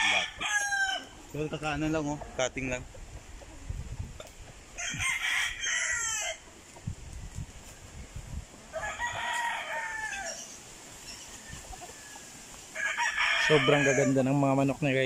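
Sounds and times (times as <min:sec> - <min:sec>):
roosters crowing: 0:00.0 - 0:03.7, 0:04.3 - 0:06.8, 0:08.4 - 0:14.7.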